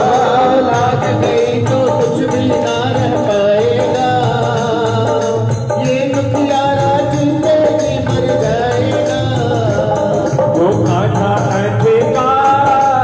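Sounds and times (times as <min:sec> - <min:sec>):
drums keeping steady beat: 0:00.0 - 0:13.0
man singing into microphone: 0:00.0 - 0:13.0.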